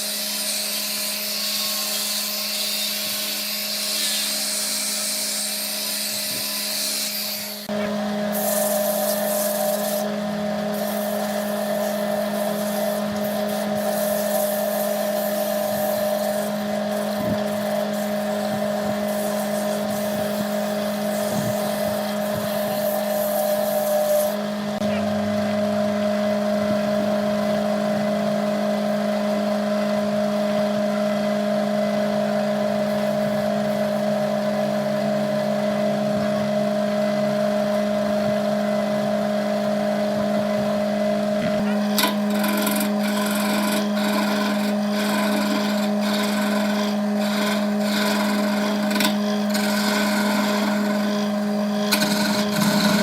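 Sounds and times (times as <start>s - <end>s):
tool hissing on spinning wood: 0.0s - 24.9s, 32.1s - 53.0s
wood lathe motor humming: 0.0s - 53.0s.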